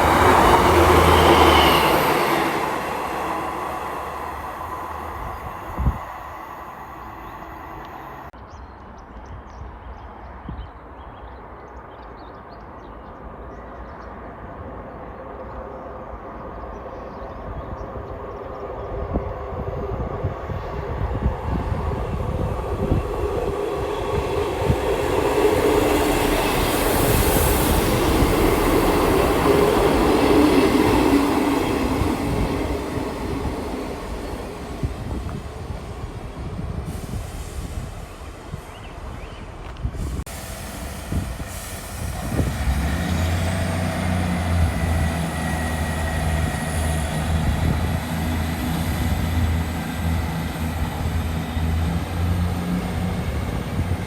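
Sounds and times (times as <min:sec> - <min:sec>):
train engine drone: 0:00.0 - 0:08.4, 0:14.1 - 0:54.0.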